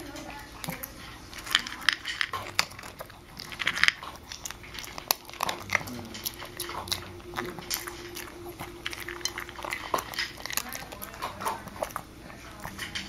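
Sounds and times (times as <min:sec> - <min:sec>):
dog chewing with crunches: 0:00.0 - 0:13.0.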